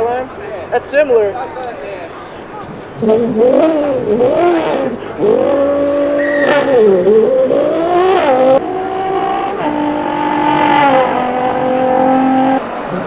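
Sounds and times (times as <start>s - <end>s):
man imitating car engine: 0.0s - 13.0s.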